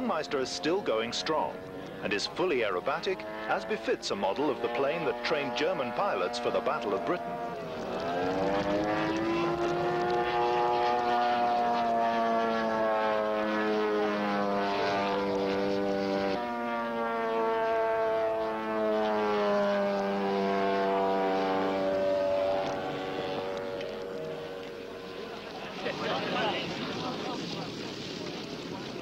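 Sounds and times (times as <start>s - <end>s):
model airplane engine and propeller: 0.0s - 29.0s.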